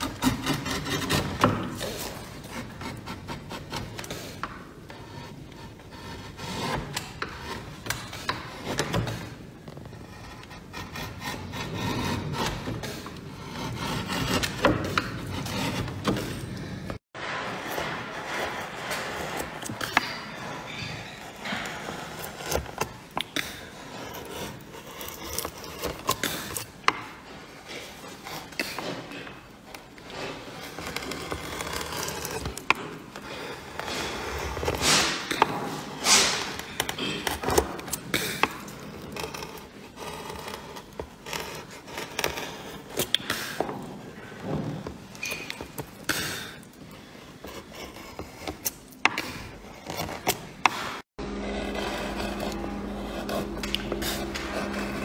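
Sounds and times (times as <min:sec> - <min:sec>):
chisel cutting wood: 0:00.0 - 0:55.0.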